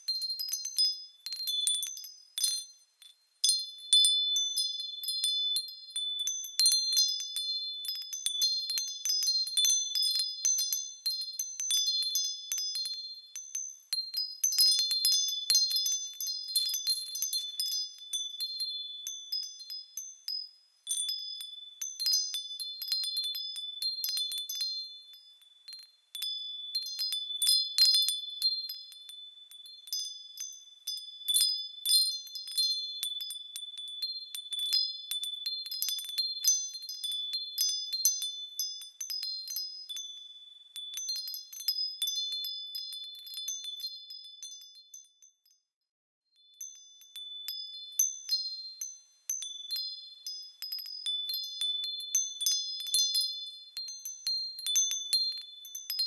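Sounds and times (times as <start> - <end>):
small bells chiming: 0.0 - 56.0.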